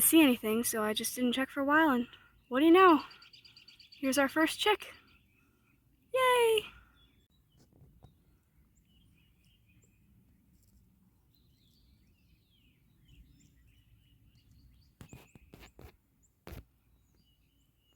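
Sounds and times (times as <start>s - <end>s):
faint distant bird chirps: 1.8s - 17.9s.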